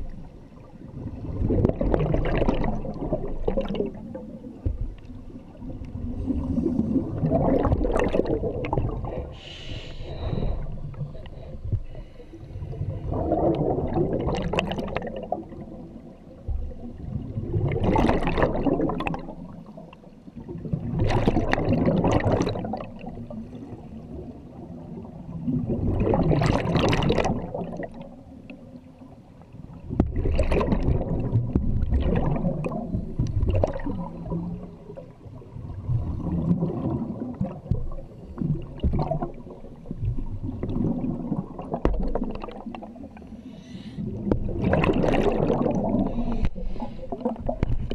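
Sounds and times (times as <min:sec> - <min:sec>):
regulator exhaust bubbles underwater: 0:00.0 - 0:09.4, 0:10.0 - 0:47.9.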